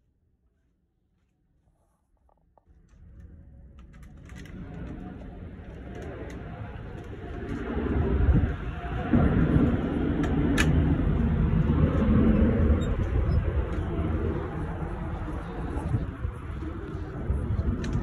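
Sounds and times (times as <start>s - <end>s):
low steady rumble: 2.7s - 18.0s.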